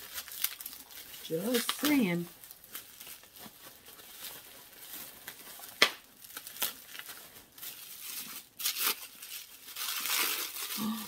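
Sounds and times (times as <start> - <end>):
packing material tearing and crinkling: 0.0 - 11.0.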